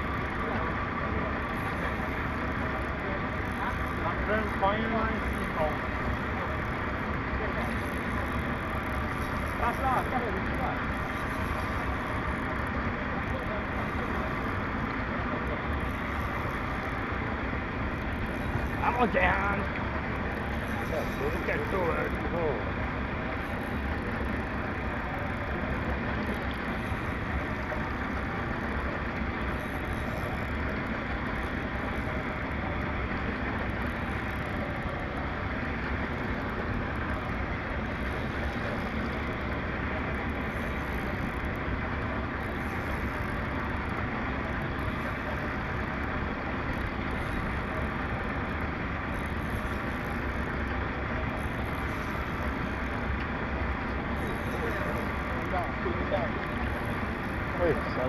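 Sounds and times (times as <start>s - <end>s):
rushing noise aboard boat: 0.0s - 58.0s.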